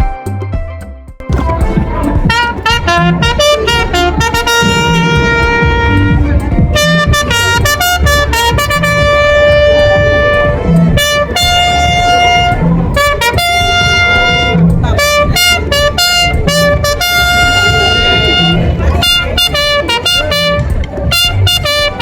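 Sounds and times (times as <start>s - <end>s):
full musical backing: 0.0s - 22.0s
wind instrument melody: 1.3s - 22.0s.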